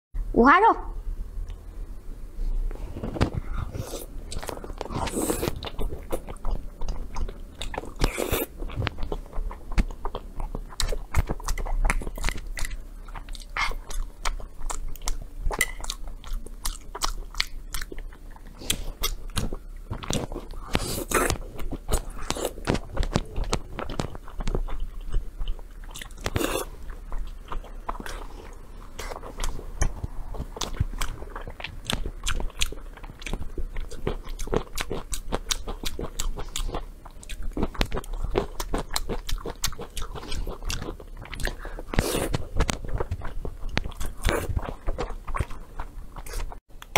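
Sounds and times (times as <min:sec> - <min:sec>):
wet chewing: 0:03.4 - 0:46.9.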